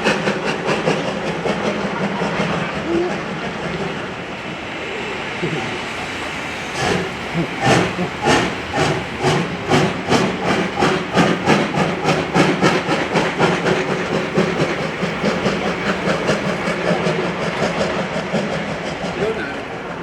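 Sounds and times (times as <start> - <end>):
steam locomotive chuffing: 0.0 - 20.0.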